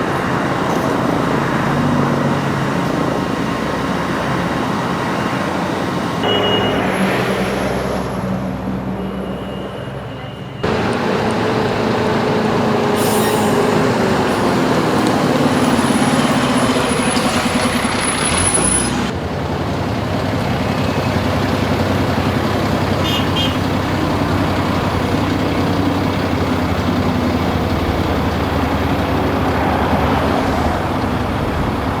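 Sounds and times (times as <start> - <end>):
heavy engine droning: 0.0 - 32.0.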